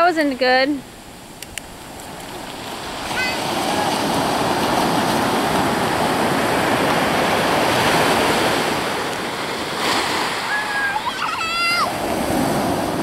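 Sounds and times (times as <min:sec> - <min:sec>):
ocean surf breaking on shore: 0:00.0 - 0:13.0.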